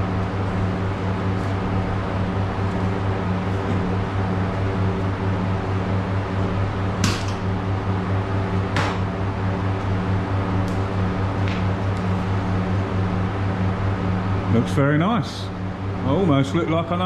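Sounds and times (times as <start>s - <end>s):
electric motor hum: 0.0s - 14.6s.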